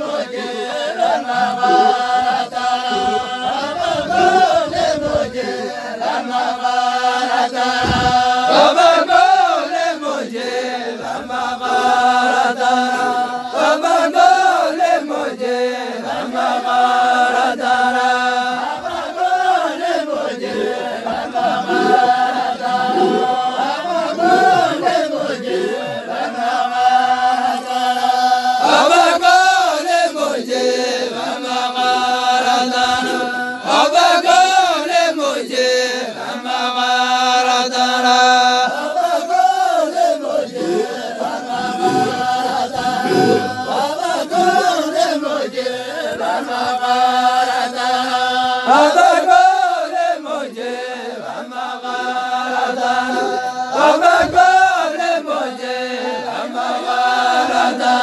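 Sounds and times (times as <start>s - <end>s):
group chanting: 0.0s - 58.0s.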